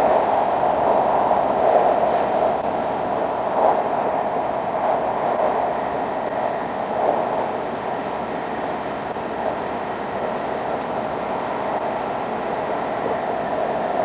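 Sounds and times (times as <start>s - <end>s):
train running noise inside car: 0.0s - 14.0s.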